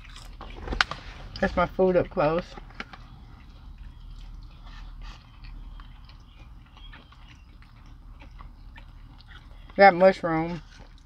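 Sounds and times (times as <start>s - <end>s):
close chewing and mouth clicks: 0.0s - 11.0s
faint low hum: 0.0s - 11.0s.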